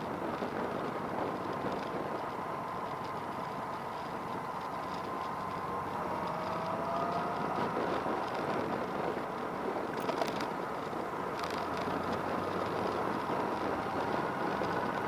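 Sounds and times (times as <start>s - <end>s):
faint whine: 0.0s - 15.0s
vehicle engine running: 0.0s - 15.0s.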